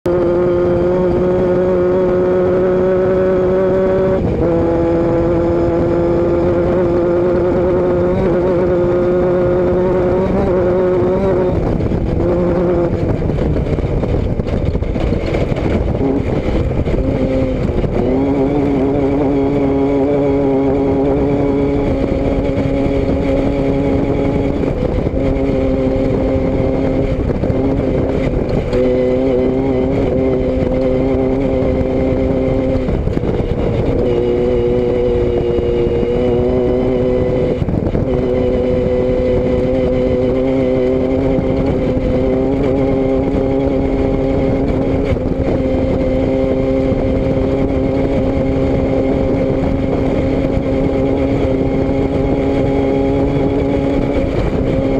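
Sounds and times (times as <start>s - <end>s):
steady rushing noise: 0.0s - 54.9s
vehicle engine running: 0.0s - 54.9s.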